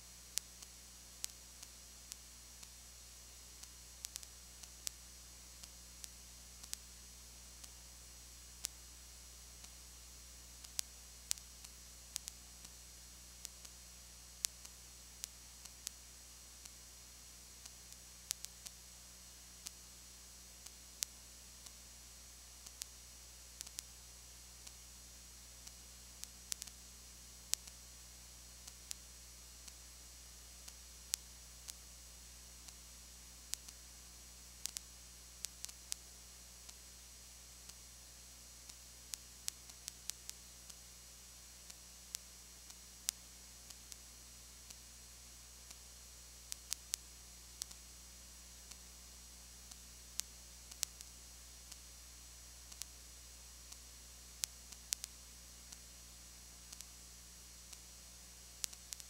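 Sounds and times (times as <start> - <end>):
low electrical hum and hiss: 0.0 - 59.0.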